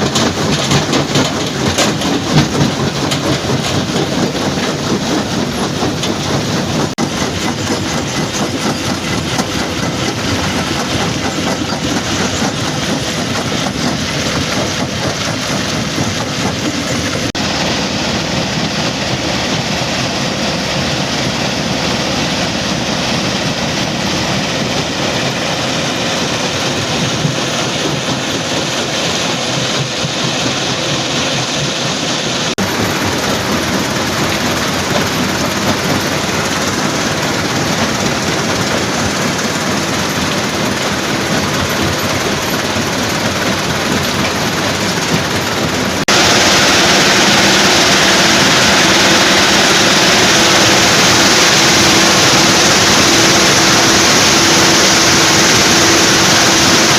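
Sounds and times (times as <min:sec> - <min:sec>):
stone crushing machinery running: 0:00.0 - 0:56.9.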